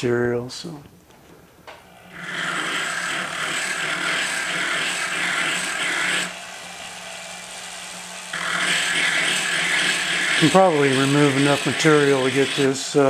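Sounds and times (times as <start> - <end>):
rotary tool motor hum: 1.8 - 13.0
burr grinding metal: 1.9 - 13.0.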